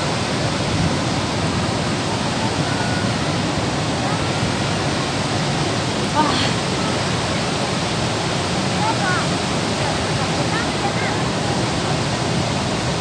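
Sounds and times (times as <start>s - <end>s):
faint voices: 0.0s - 13.0s
waterfall rushing: 0.0s - 13.0s.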